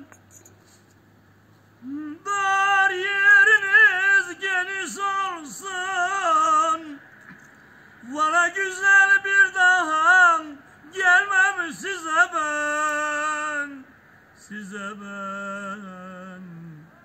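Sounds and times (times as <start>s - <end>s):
man singing unaccompanied: 1.8s - 7.1s, 8.0s - 17.0s.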